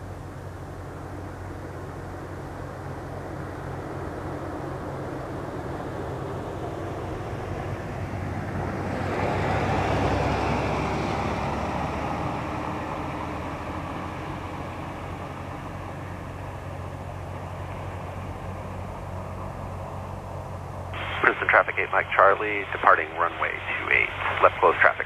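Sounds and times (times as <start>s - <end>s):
light airplane engine droning: 0.0s - 25.0s.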